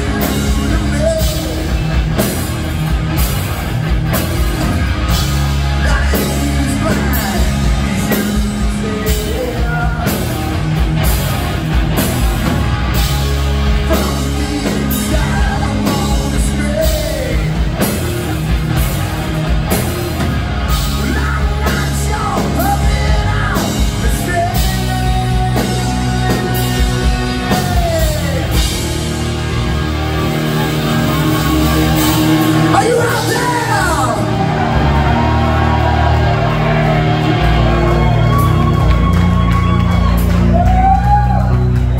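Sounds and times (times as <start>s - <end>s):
bass guitar: 0.0s - 41.9s
distorted electric guitars: 0.0s - 41.9s
drum kit steady beat: 0.0s - 41.9s.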